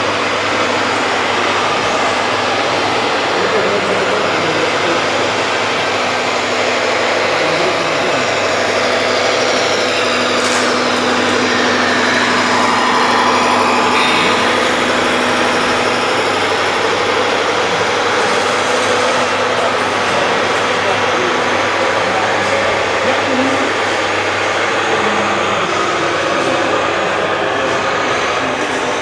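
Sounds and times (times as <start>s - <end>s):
small motor whine: 0.0s - 29.0s.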